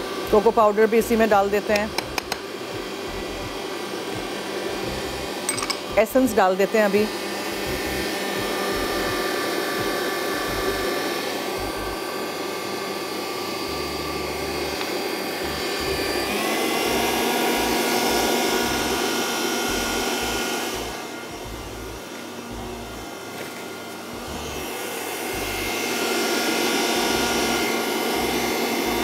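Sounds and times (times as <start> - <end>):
electric mixer whipping eggs: 0.0 - 29.0.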